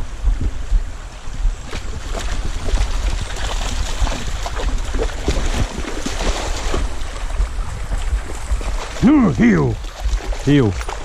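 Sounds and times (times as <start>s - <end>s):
rushing stream: 0.0s - 11.0s
dog splashing through water: 1.7s - 11.0s.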